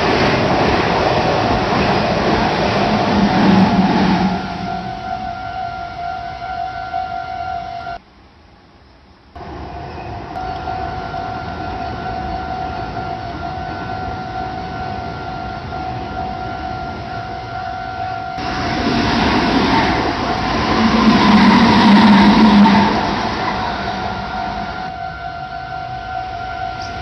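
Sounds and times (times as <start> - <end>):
train passing: 0.0 - 8.0, 9.4 - 27.0.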